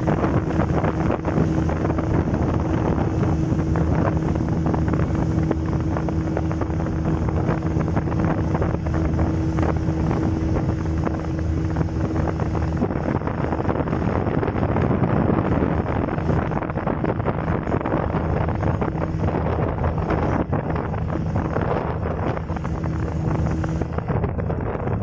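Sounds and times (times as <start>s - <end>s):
boat motor running: 0.0s - 25.0s
water rushing past hull: 0.0s - 25.0s
wind buffeting microphone: 0.0s - 25.0s.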